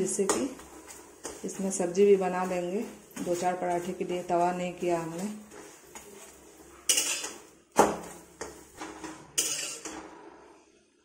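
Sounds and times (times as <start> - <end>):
steel spatula scraping a pan: 0.0 - 10.7.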